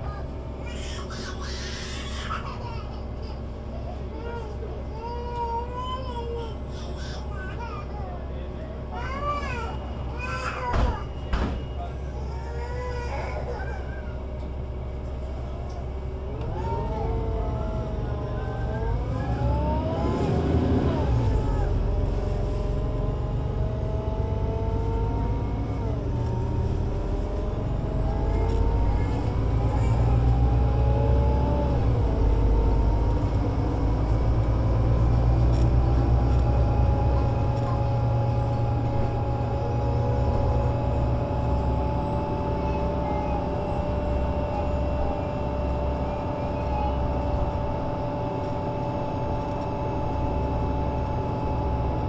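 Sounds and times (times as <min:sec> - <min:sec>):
bus diesel engine accelerating: 0:00.0 - 0:52.0.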